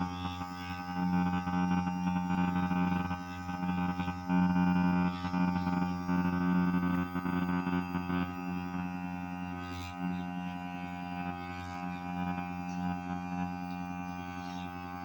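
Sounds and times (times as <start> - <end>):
electric shaver motor buzzing: 0.0 - 15.0.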